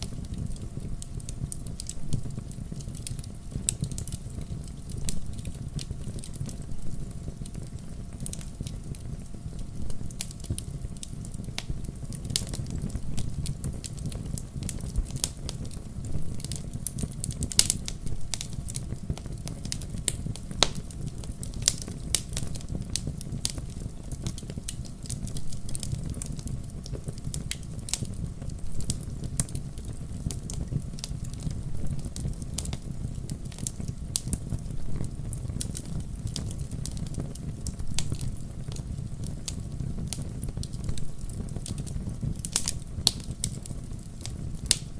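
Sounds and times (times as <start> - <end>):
low fire rumble: 0.0 - 44.9
wood fire crackling and popping: 0.0 - 44.9.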